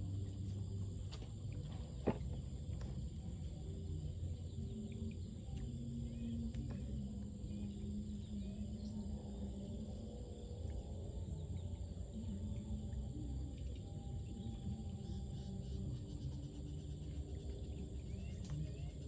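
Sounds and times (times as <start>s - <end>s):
low rumble: 0.0s - 18.4s
high-pitched insect drone: 2.4s - 19.0s.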